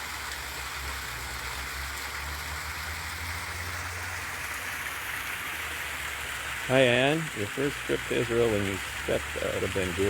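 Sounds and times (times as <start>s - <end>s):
brook water rushing: 0.0s - 10.0s.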